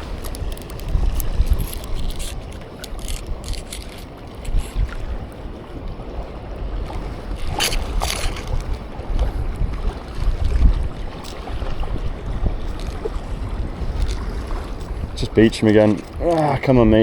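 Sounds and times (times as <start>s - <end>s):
shore waves: 0.0s - 17.0s
wind buffeting microphone: 0.0s - 17.0s.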